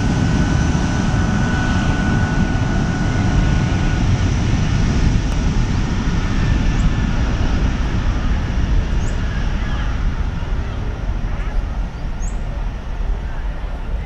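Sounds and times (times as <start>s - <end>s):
jet engines rumbling: 0.0s - 14.0s
thin high engine whine: 0.0s - 14.0s.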